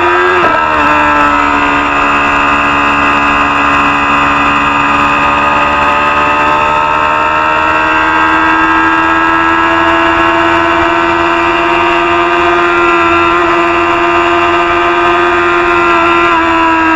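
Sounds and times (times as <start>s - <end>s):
motorcycle engine at high revs: 0.0s - 16.9s.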